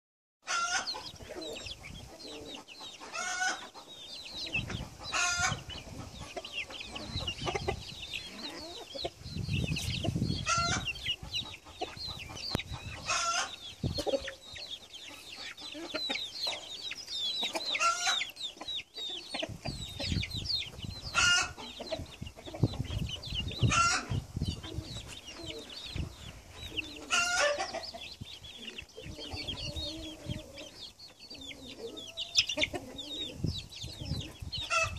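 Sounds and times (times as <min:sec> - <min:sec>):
harsh chicken calls: 0:00.4 - 0:34.9
chicks peeping: 0:00.5 - 0:34.9.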